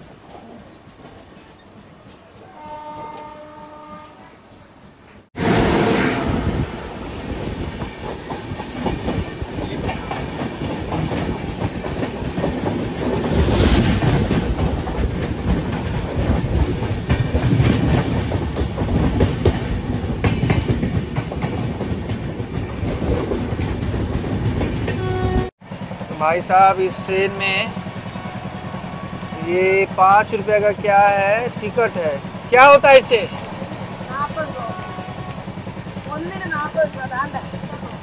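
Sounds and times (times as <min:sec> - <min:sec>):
train coaches passing close: 0:00.0 - 0:38.0.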